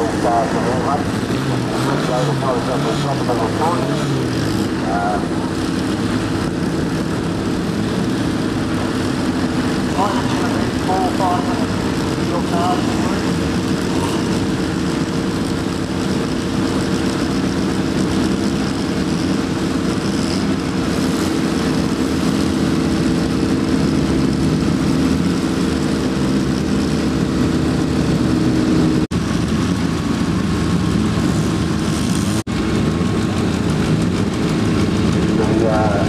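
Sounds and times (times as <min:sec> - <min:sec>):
racing car engines running: 0:00.0 - 0:36.0.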